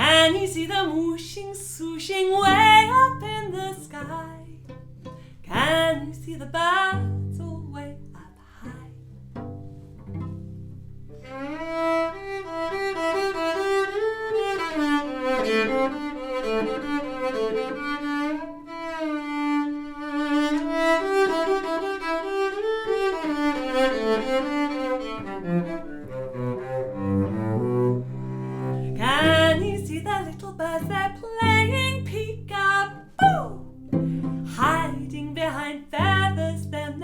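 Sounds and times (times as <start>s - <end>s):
solo cello bowed melody: 0.0s - 37.0s.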